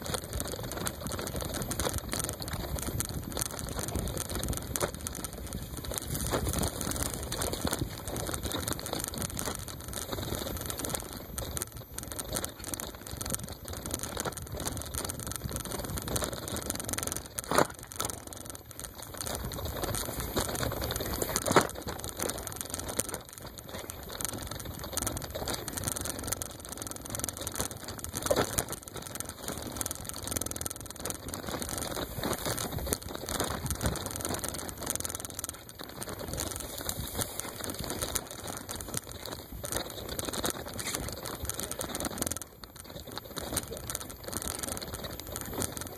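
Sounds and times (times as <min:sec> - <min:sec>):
bicycle rattling over rough trail: 0:00.0 - 0:45.9.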